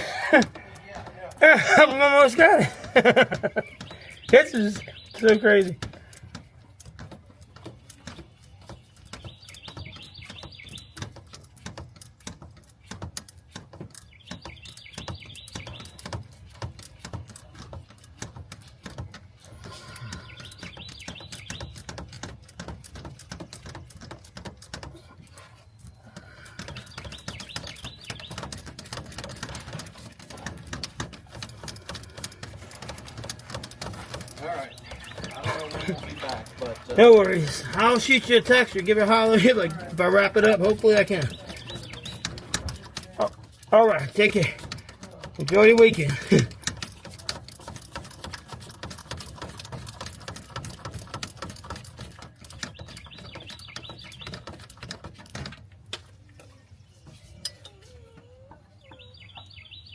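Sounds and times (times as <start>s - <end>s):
hand tools clicking on metal: 0.0s - 58.4s
birds chirping: 0.0s - 59.9s.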